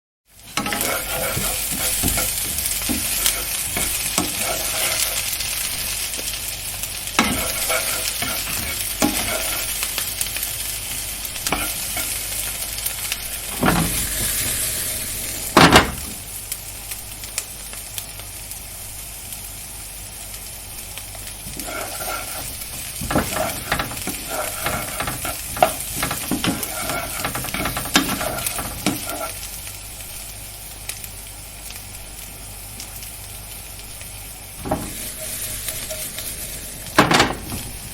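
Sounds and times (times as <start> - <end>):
fish sizzling in hot oil: 0.3 - 37.9.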